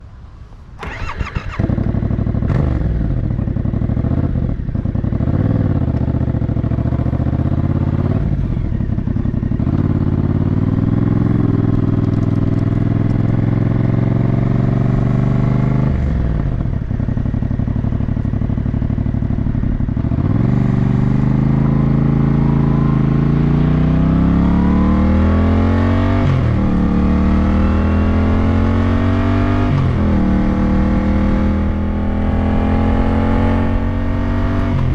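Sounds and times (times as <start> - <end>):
motorcycle engine accelerating: 0.8 - 34.9.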